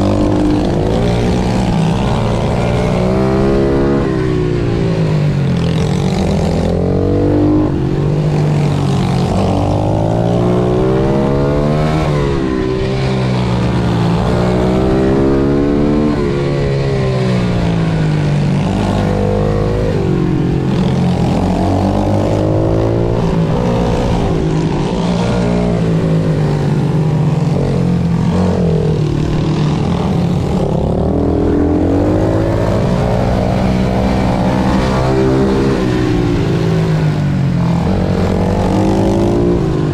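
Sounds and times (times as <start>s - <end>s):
motorbike engine revving hard: 0.0s - 39.9s.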